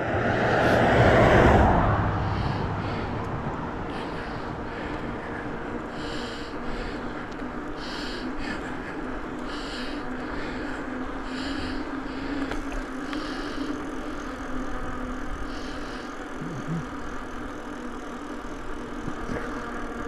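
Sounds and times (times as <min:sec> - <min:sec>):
bicycle rolling on road: 0:00.0 - 0:20.0
constant low hum: 0:00.0 - 0:20.0
rider breathing: 0:00.3 - 0:20.0.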